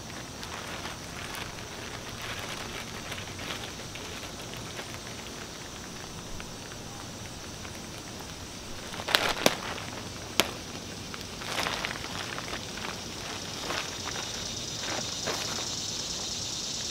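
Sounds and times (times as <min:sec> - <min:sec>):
plastic liner crinkling: 0:00.0 - 0:16.3.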